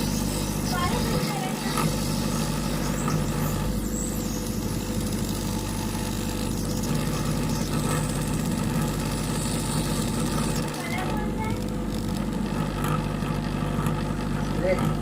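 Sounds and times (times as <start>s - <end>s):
hot-air machine hum and hiss: 0.0s - 15.0s.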